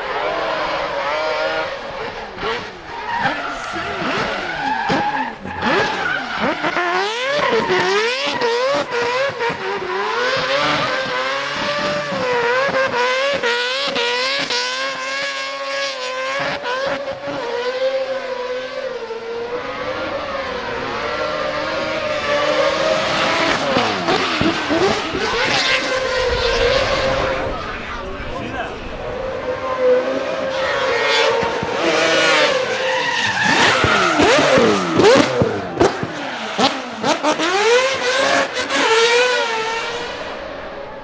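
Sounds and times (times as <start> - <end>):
rotary engine revving: 0.0 - 41.0.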